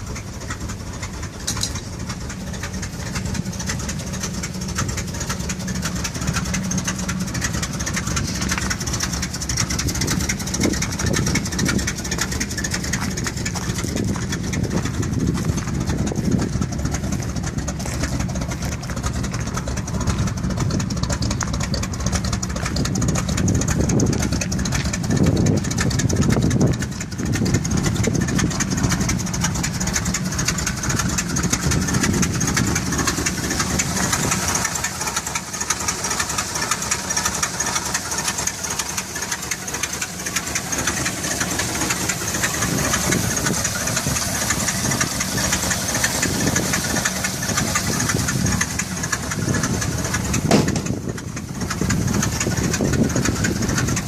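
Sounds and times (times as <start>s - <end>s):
pickup truck engine idling: 0.0s - 54.0s.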